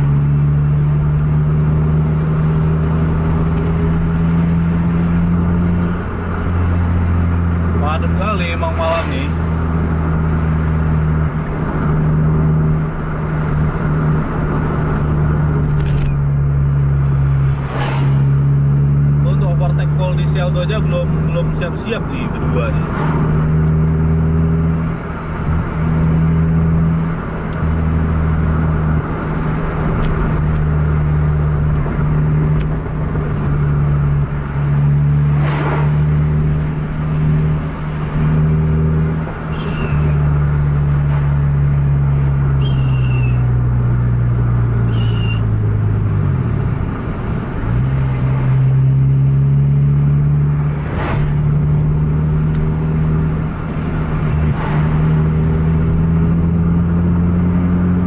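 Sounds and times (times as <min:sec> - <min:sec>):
car engine at high revs: 0:00.0 - 0:58.0
road noise: 0:00.0 - 0:58.0.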